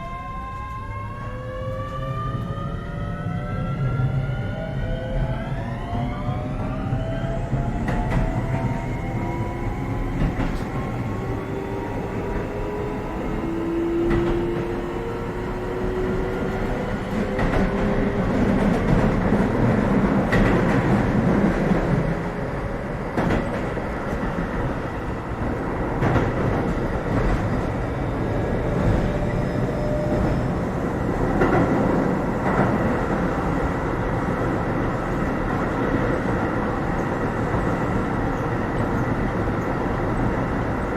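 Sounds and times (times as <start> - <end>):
train rolling rumble: 0.0 - 40.9.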